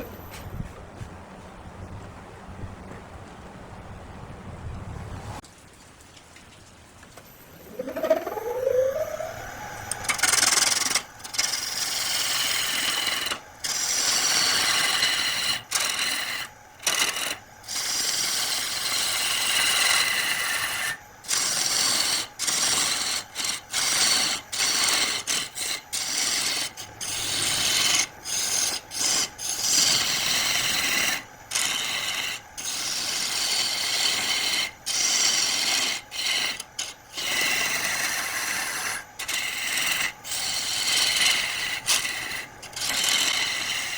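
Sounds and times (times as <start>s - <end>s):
lathe tool cutting wood: 7.6s - 43.9s.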